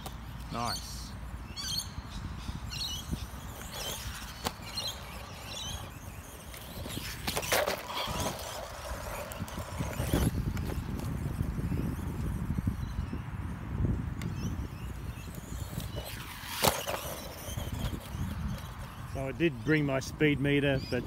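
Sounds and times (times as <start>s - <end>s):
birds chirping: 0.0s - 13.5s, 14.1s - 21.0s
toy truck driving over dirt: 2.6s - 13.2s, 14.1s - 21.0s.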